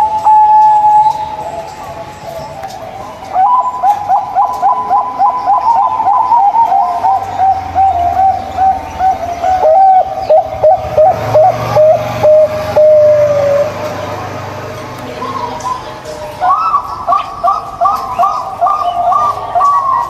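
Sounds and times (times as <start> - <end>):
dove cooing: 0.0 - 14.3, 15.1 - 20.0.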